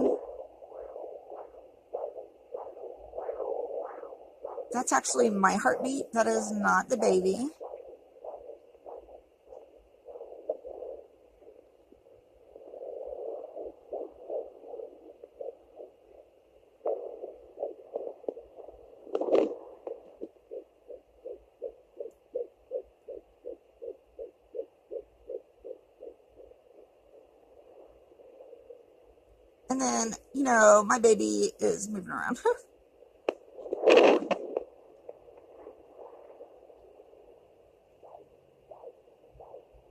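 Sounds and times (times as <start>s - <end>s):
fetal heartbeat pulses on doppler: 0.0s - 39.9s.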